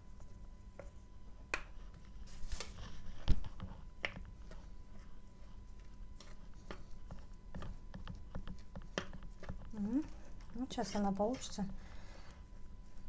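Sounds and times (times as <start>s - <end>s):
hands mixing wet clay: 0.0s - 13.0s.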